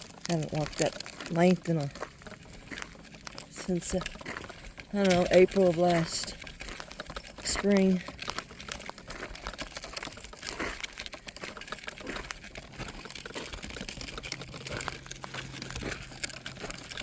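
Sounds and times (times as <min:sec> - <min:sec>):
crackling and rustling footsteps: 0:00.0 - 0:17.0.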